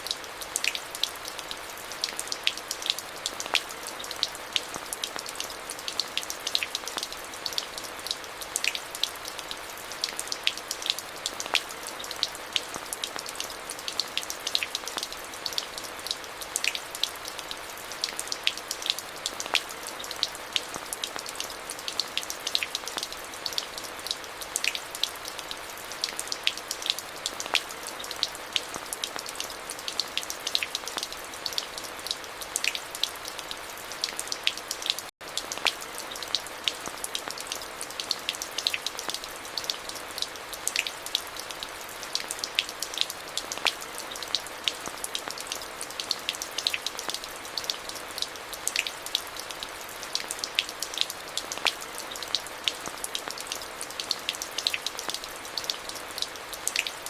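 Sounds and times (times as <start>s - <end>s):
rain with drop ticks: 0.0s - 57.0s.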